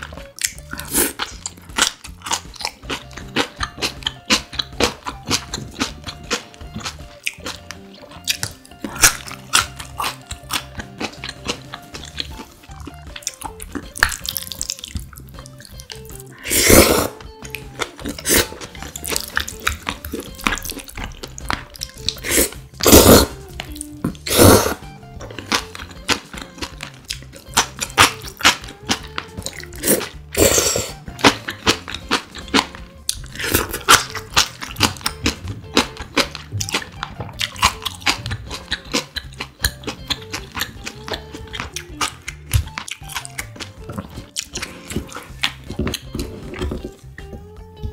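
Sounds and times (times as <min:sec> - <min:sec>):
wet chewing and crunching: 0:00.0 - 0:47.9.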